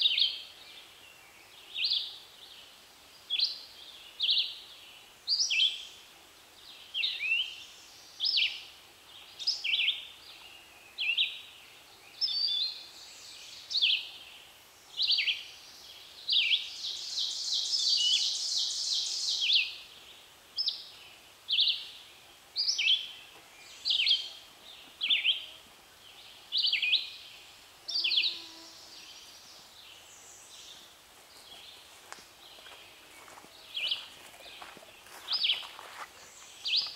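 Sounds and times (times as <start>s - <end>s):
songbirds singing: 0.0s - 36.9s.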